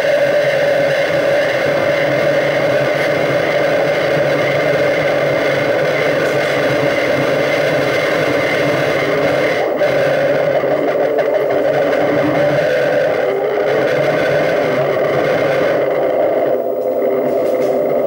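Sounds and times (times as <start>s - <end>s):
electronic drone tones: 0.0s - 18.0s
rough electronic hiss: 0.0s - 18.0s.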